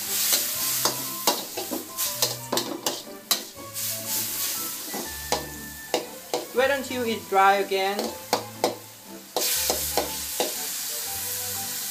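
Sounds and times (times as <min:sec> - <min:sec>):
metal spatula scraping a wok: 0:00.0 - 0:11.4
noodles sizzling in a wok: 0:00.0 - 0:11.9.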